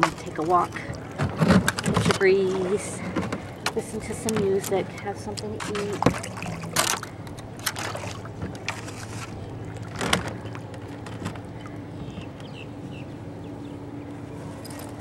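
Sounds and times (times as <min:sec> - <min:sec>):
water splashing against a kayak: 0:00.0 - 0:12.5.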